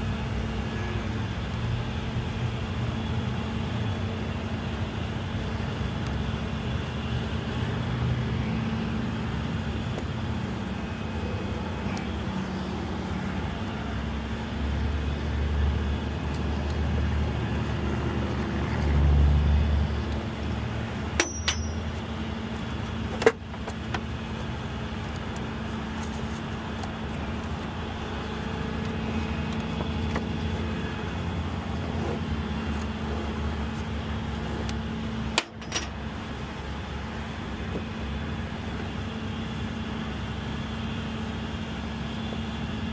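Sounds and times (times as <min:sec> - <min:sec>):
vehicle engine and road noise: 0:00.0 - 0:42.9.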